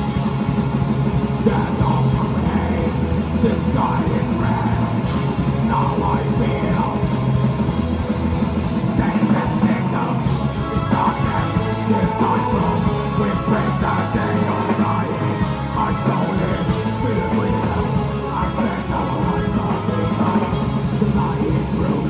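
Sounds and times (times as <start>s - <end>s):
bass guitar: 0.0s - 22.0s
distorted electric guitars: 0.0s - 22.0s
drum kit: 0.0s - 22.0s.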